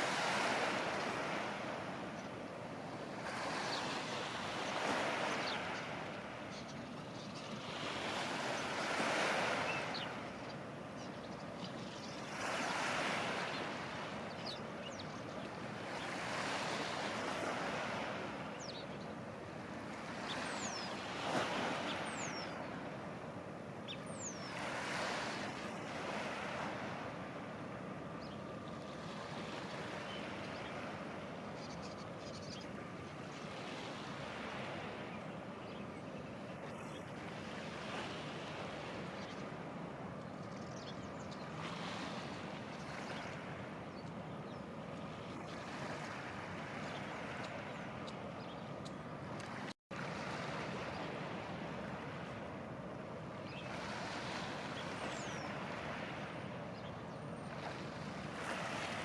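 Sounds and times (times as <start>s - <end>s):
waves washing onto shore: 0.0s - 40.2s, 49.0s - 59.0s
wind: 0.0s - 59.0s.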